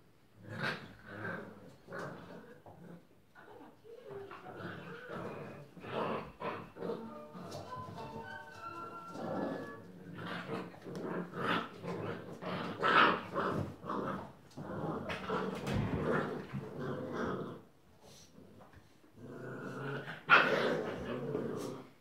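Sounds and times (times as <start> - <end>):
puppies growling: 0.4 - 22.0.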